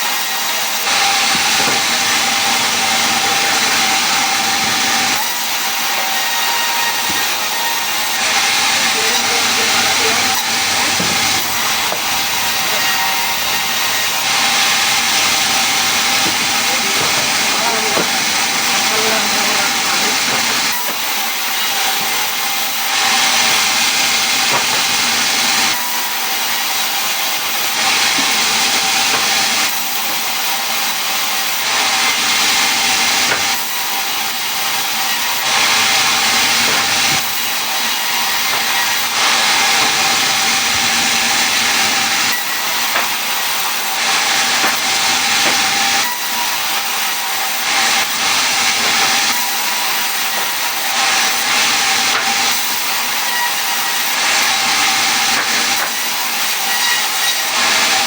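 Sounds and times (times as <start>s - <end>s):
wood being sawn: 0.0s - 58.0s.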